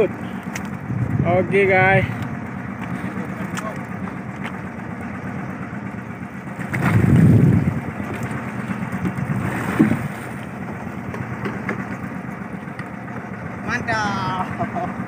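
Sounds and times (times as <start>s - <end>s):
boat engine humming: 0.0s - 15.0s
loud low-pitched engine surge: 0.0s - 15.0s.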